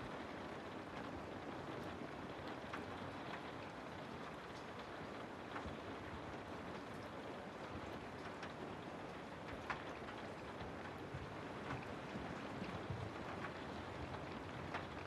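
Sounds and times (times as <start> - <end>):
rain falling through trees: 0.0 - 15.0.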